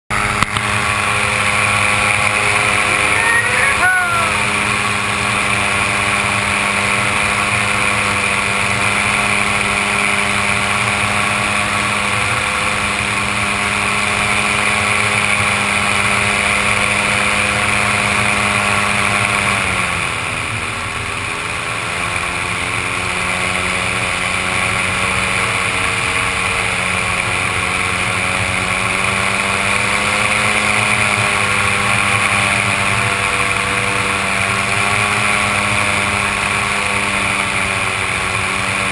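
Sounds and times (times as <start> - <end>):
paramotor engine drone: 0.1 - 38.9.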